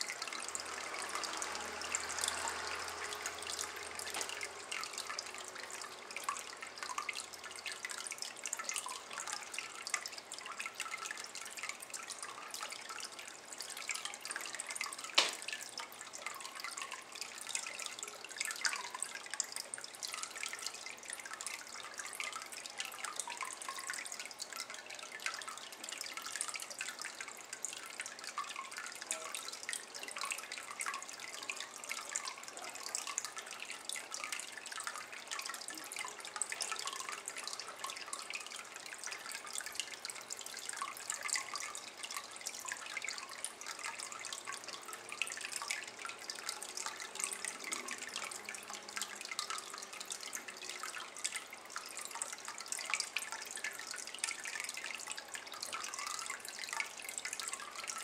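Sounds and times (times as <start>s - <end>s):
water dripping into bowl: 0.0s - 58.0s.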